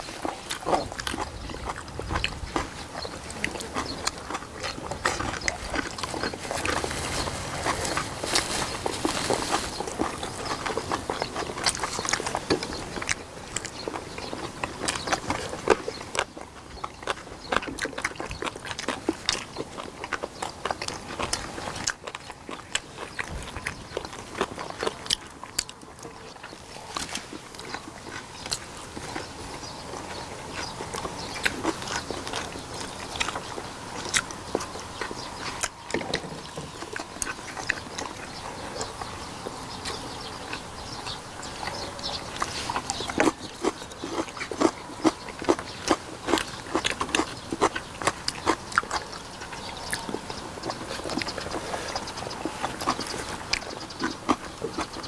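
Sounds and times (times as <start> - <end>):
people chewing and smacking lips: 0.0 - 55.0.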